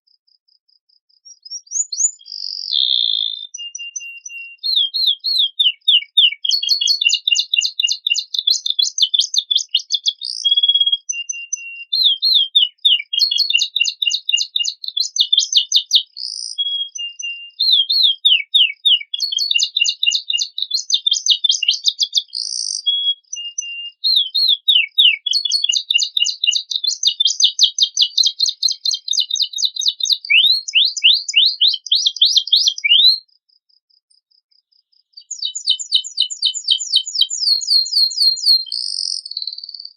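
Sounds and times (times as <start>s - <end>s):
canary singing trills: 1.2s - 33.3s, 35.1s - 39.9s.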